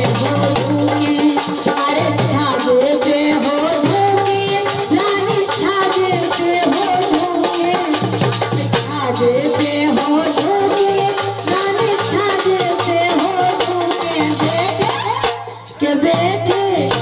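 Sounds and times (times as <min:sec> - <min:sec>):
rhythmic drum beat: 0:00.0 - 0:17.0.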